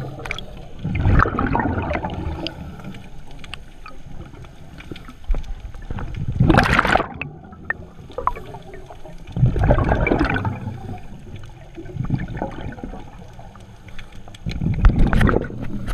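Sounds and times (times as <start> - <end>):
faint clicking: 0.0 - 0.8, 2.0 - 15.9
underwater breath bubbling: 0.0 - 3.3, 4.6 - 15.9.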